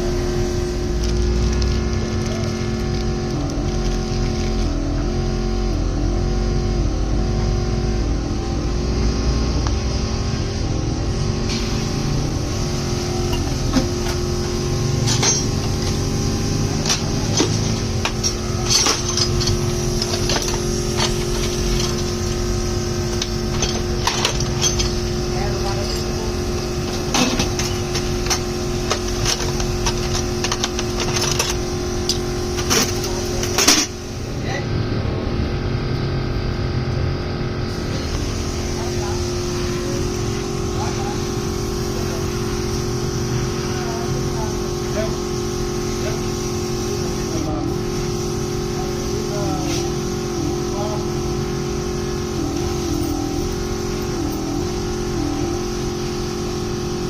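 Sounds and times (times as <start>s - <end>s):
engine running: 0.0s - 57.0s
steady hum: 0.0s - 57.0s.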